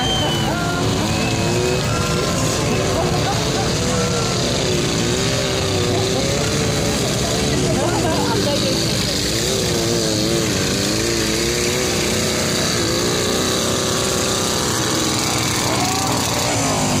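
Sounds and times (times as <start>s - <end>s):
tractor engine working under load: 0.0s - 17.0s.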